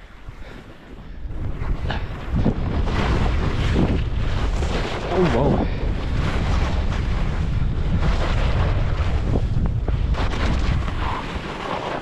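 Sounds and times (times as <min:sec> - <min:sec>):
skis scraping over snow: 0:00.0 - 0:12.0
wind buffeting microphone: 0:00.0 - 0:12.0.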